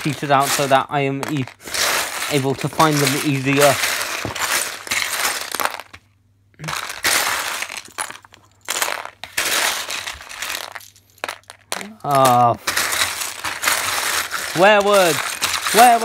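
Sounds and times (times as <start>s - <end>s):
plastic bricks clattering in a box: 0.0s - 16.0s.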